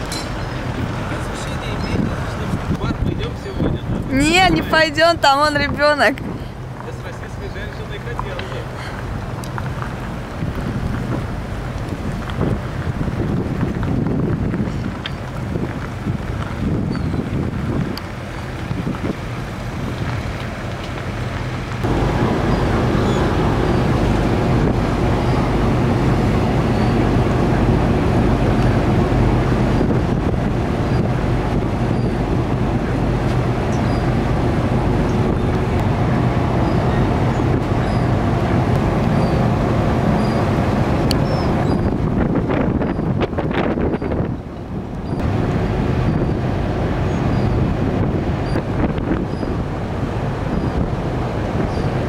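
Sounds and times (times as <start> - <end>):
wind on microphone: 0.0 - 6.9, 8.8 - 52.0
low drone of ship engines: 0.0 - 52.0
road noise: 0.0 - 52.0.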